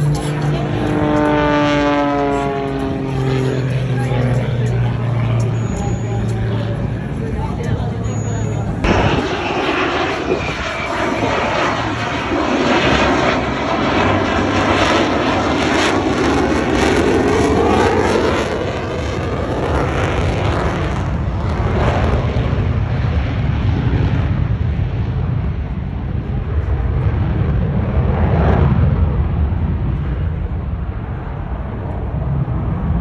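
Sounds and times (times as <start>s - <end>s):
jet aircraft roaring overhead: 0.0s - 33.0s.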